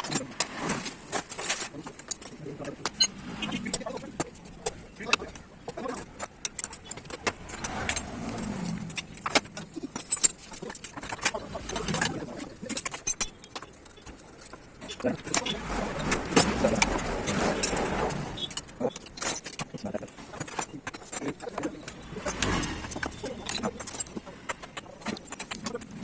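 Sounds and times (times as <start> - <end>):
metal tools clinking: 0.0 - 26.0.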